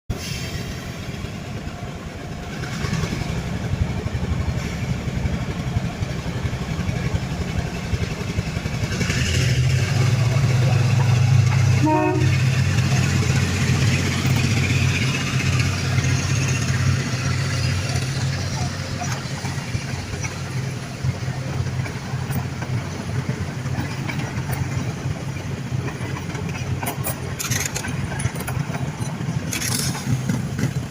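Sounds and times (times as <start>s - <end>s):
diesel train passing: 0.1s - 30.9s.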